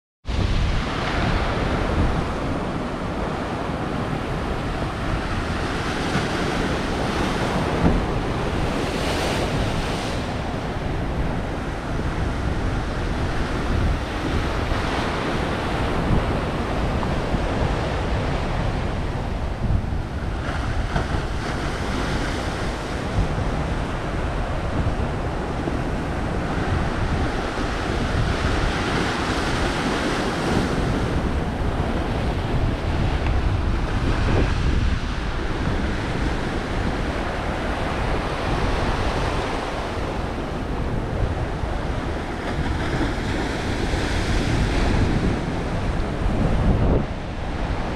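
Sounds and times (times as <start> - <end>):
wind buffeting microphone: 0.2 - 47.9
ocean surf washing against rocks: 0.3 - 47.9.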